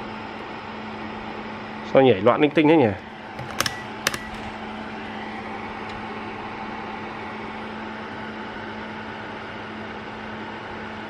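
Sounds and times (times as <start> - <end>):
cooling fan whirring: 0.0 - 11.0.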